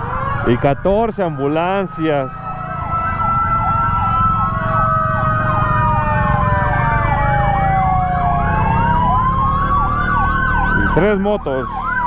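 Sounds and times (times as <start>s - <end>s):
ambulance sirens: 0.0s - 12.0s
engine and road rumble: 0.0s - 12.0s.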